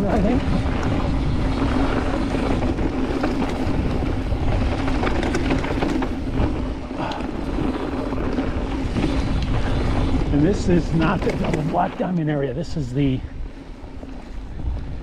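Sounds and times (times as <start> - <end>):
tyres rumbling on dirt: 0.0 - 13.2
bike clicks and rattles: 0.0 - 15.0
wind buffeting microphone: 0.0 - 15.0.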